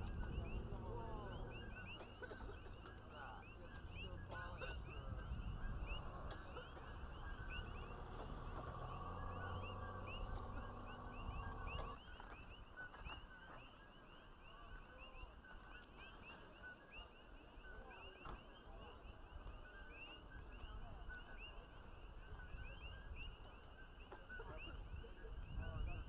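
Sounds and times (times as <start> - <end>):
chorus of small animals chirping: 0.0 - 26.0.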